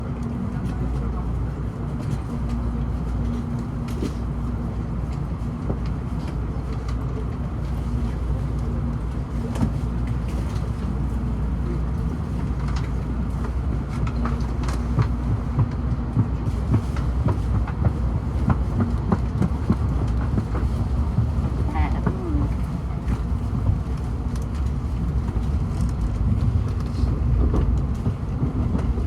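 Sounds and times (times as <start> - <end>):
train cabin rumble: 0.0 - 29.0.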